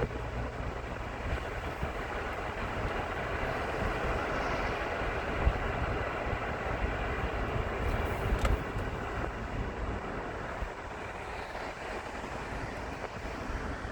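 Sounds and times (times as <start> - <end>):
car road noise: 0.0 - 13.9.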